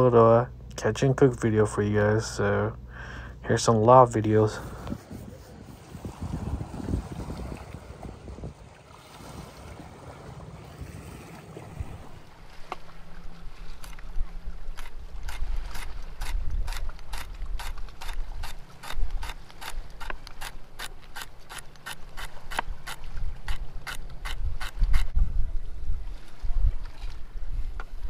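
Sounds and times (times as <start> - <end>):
low wind rumble: 0.0 - 28.0
faint lapping water: 4.3 - 28.0.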